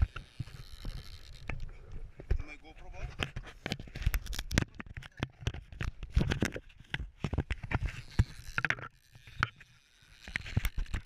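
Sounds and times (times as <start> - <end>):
knocks taps and scrapes: 0.0 - 9.6.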